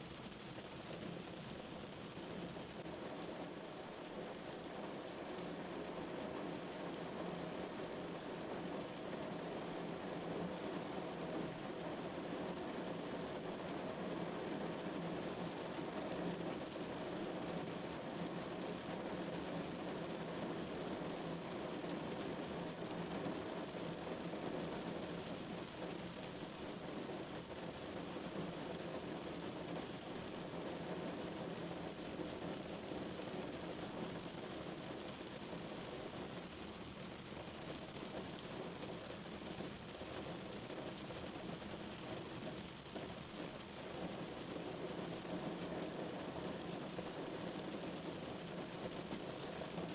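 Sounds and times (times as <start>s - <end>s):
rain drumming on car roof: 0.0s - 49.9s.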